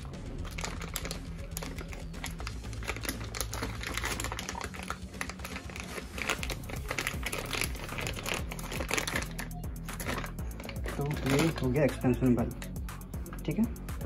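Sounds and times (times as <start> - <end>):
plastic bag crinkling: 0.3 - 12.7.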